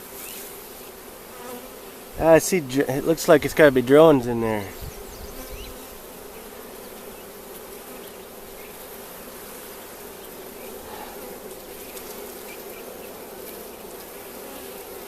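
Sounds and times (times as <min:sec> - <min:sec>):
honeybees humming: 0:00.0 - 0:15.0.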